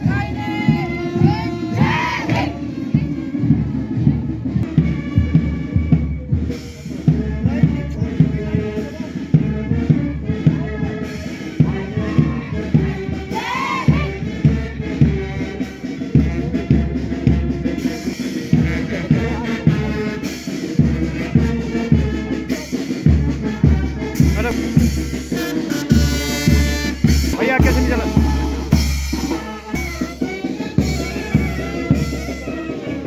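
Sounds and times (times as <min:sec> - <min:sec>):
bass drum beat: 0:00.0 - 0:33.0
brass band playing a march: 0:00.0 - 0:33.0.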